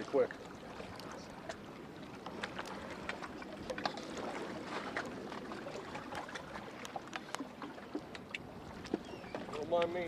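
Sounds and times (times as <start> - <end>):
water lapping against rocks: 0.0 - 10.0.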